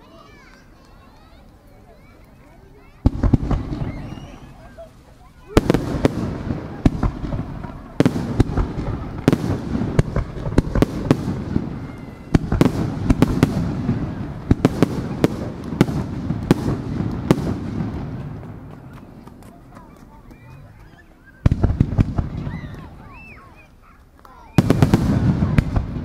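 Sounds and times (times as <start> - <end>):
fireworks bursting: 2.0 - 26.0.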